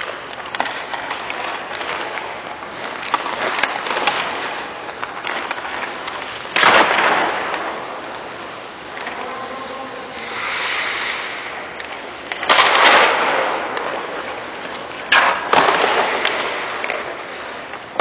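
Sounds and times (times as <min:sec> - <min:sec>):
hockey stick cracks: 0:00.0 - 0:07.9, 0:10.6 - 0:18.0
skate blades scraping ice: 0:00.0 - 0:18.0.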